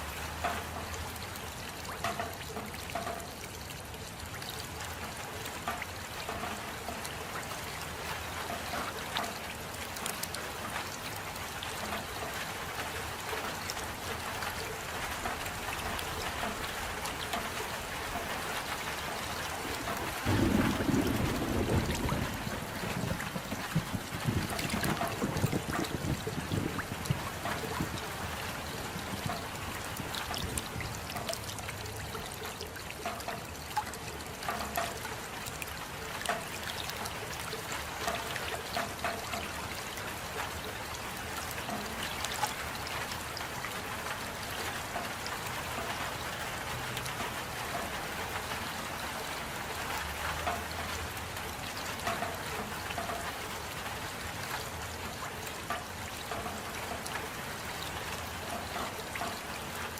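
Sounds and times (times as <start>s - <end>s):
steady rain: 0.0s - 59.9s
water trickling: 0.0s - 59.9s
drops dripping: 0.2s - 59.9s.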